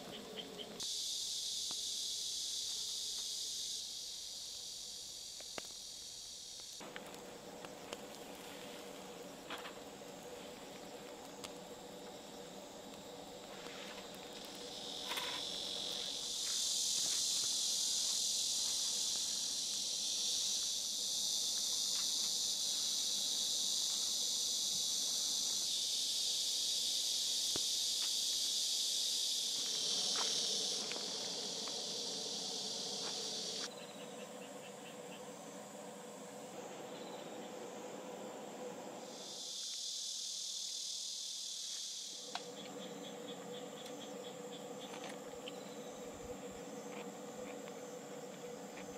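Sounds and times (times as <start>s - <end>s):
crickets and insects chirring: 0.0s - 48.9s.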